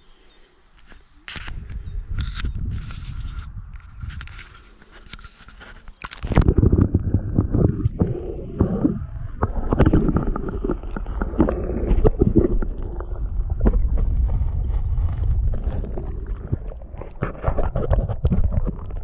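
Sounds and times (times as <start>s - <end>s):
wind buffeting microphone: 1.4s - 4.6s, 6.4s - 19.0s.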